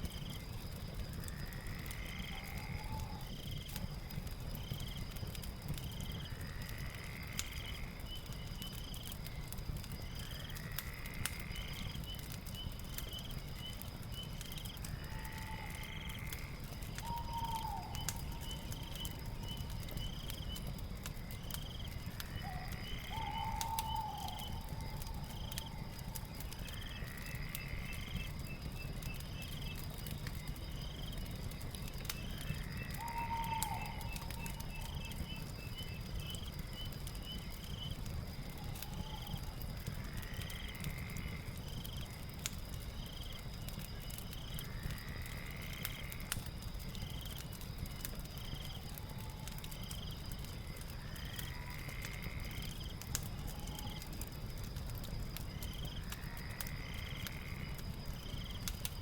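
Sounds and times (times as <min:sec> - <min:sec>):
fire crackling: 0:00.0 - 0:59.0
insect drone: 0:00.0 - 0:59.0.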